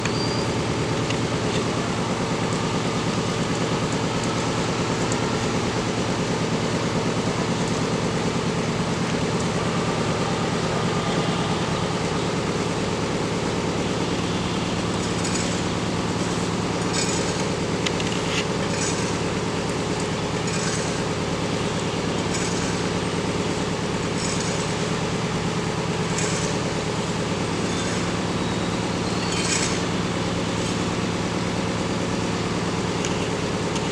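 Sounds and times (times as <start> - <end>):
low mechanical drone: 0.0 - 33.9.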